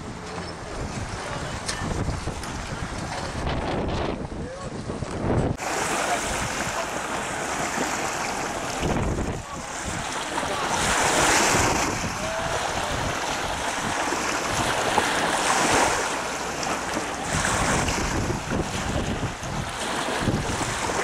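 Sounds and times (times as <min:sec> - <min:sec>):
water lapping against shore: 0:00.0 - 0:21.0
wind buffeting microphone: 0:00.0 - 0:21.0.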